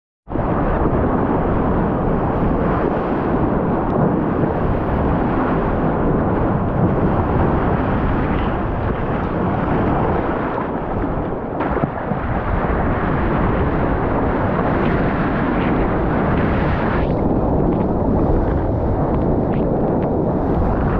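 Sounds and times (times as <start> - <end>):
seawater rushing and splashing: 0.3 - 20.9.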